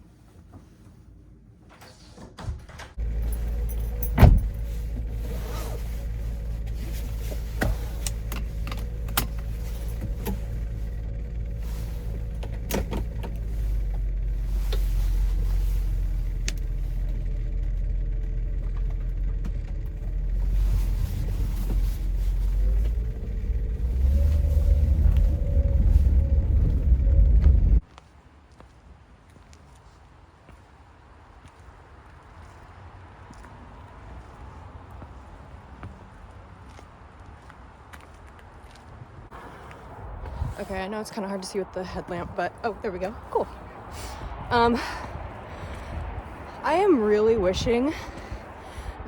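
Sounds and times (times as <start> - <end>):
car engine and road noise: 0.1 - 49.0.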